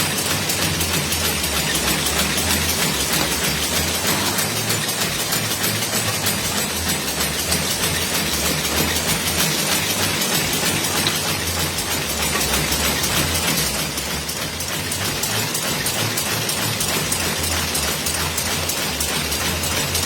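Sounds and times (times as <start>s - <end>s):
low machine hum: 0.0s - 20.0s
packing machine clattering: 0.0s - 20.0s.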